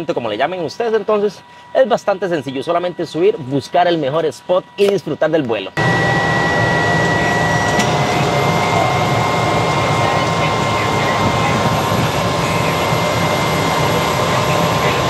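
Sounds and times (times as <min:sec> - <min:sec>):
turboprop engine running: 0:00.0 - 0:15.0.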